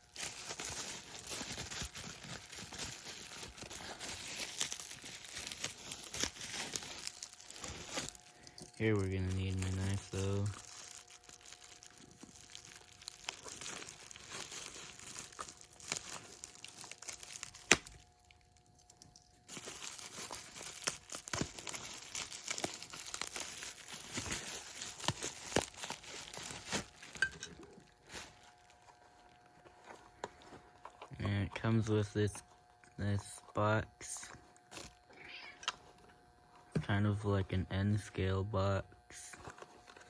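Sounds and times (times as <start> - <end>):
packaging crinkling and tearing: 0.0 - 31.3, 34.3 - 36.0, 39.3 - 40.0.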